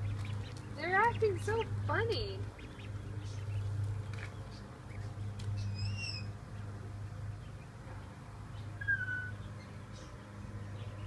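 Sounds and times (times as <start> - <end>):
ducklings peeping: 0.0 - 11.0
steady low hum: 0.0 - 11.0.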